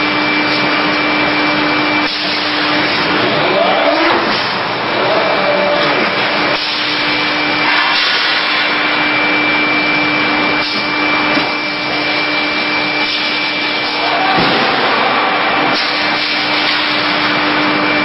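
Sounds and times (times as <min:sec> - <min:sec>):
high whine: 0:00.0 - 0:18.0.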